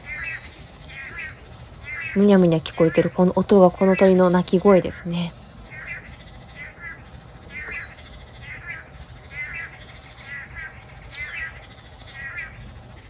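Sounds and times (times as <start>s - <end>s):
bird wavering call: 0.0s - 4.2s, 5.7s - 12.7s.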